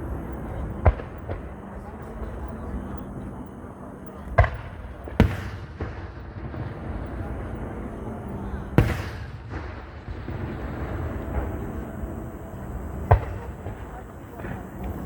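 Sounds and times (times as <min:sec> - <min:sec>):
fireworks bursting with bangs: 0:00.0 - 0:02.8, 0:04.1 - 0:15.0.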